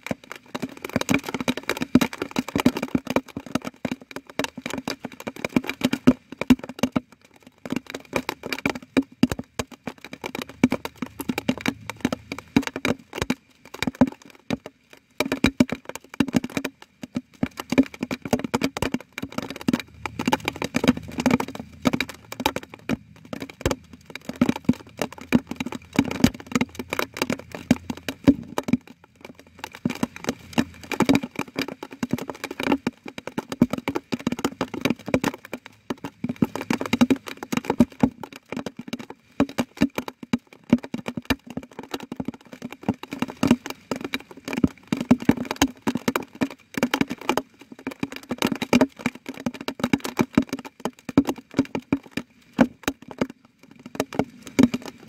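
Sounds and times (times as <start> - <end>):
water drops falling: 0.2 - 55.0.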